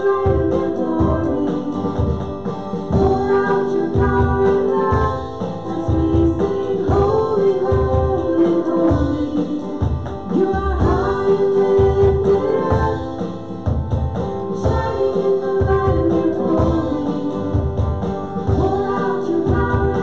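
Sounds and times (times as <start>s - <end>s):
band with steady drum beat: 0.0s - 20.0s
gospel singing: 0.0s - 20.0s.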